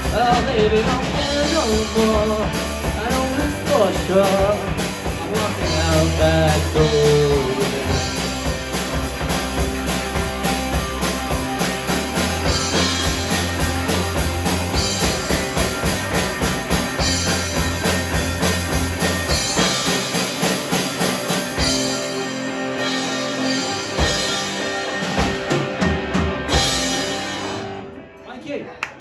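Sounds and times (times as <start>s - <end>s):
drum kit beat: 0.0s - 27.8s
bass: 0.0s - 28.3s
guitar: 0.0s - 29.0s.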